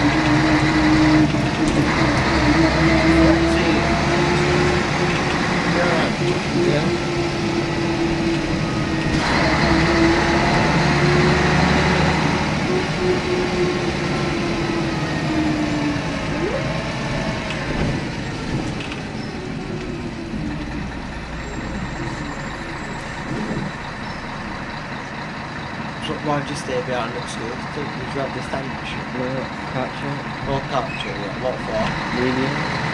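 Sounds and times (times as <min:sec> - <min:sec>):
bus engine whine: 0:00.0 - 0:32.9.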